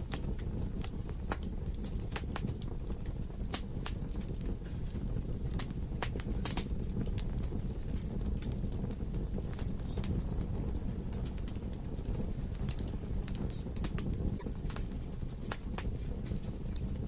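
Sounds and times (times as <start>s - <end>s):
logs burning with crackles: 0.0s - 17.0s.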